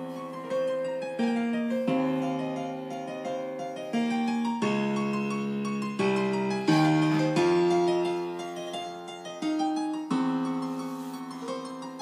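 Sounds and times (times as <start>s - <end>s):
piano chords through small speakers: 0.0s - 12.0s.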